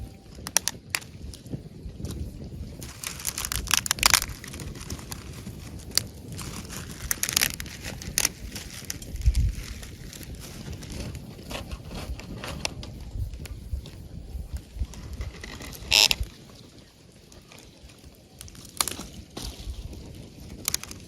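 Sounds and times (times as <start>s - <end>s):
campfire crackling and popping: 0.3s - 16.4s, 17.3s - 21.0s.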